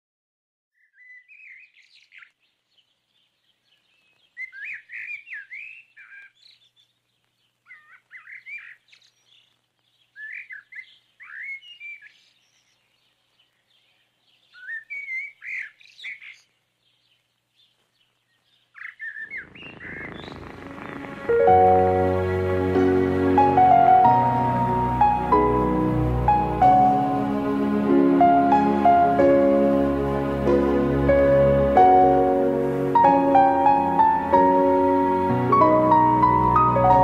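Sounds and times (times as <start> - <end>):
songbird chirping: 0.7 - 37.0.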